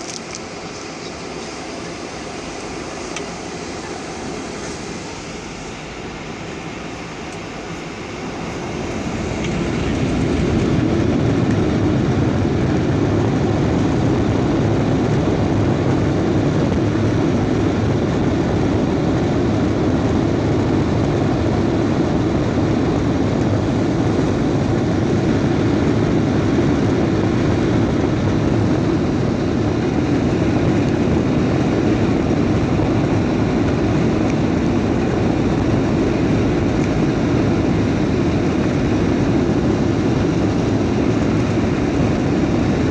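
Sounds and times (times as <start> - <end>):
jet engines spooling up: 0.0 - 42.9
low rumble of takeoff roll: 0.0 - 42.9.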